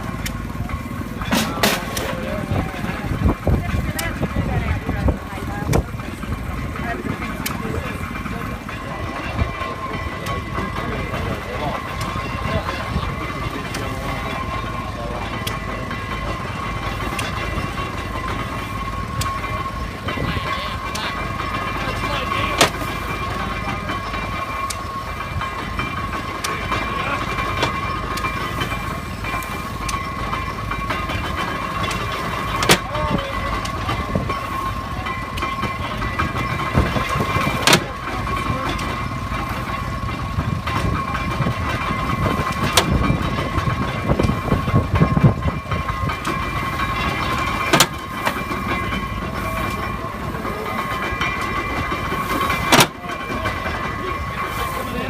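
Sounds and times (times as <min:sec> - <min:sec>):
hay baler machinery running: 0:00.0 - 0:55.0.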